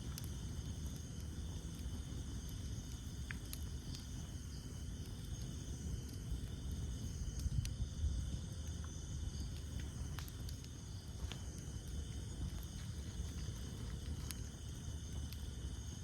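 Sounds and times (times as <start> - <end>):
burning wood crackling: 0.0 - 16.0
campfire flames rushing: 0.0 - 16.0
insects chirping: 0.0 - 16.0.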